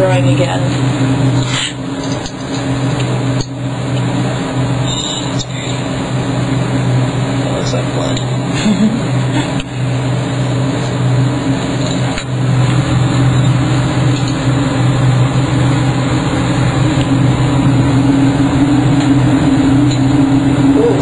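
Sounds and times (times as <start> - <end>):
fume hood exhaust fan humming: 0.0 - 21.0.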